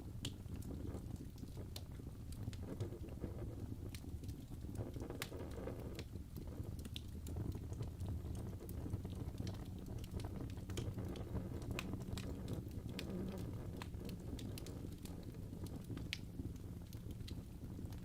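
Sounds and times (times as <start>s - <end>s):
wood fire burning: 0.0s - 18.0s.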